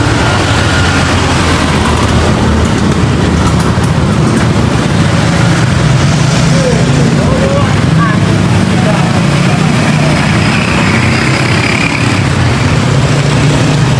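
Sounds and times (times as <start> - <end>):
motorbike and scooter traffic: 0.0 - 13.9.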